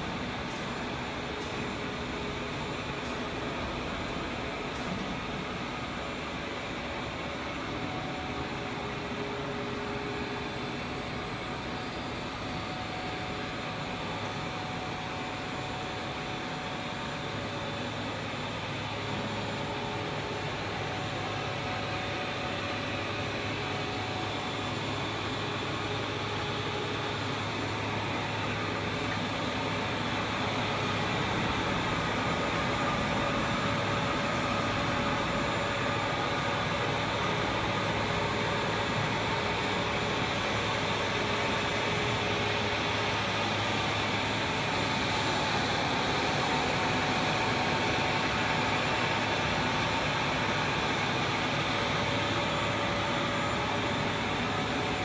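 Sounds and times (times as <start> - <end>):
machine motors whirring and humming: 0.0 - 55.0.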